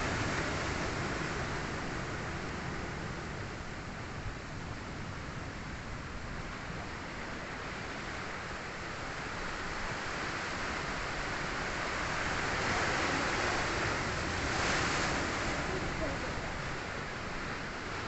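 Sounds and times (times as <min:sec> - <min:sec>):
waves washing onto shore: 0:00.0 - 0:18.0.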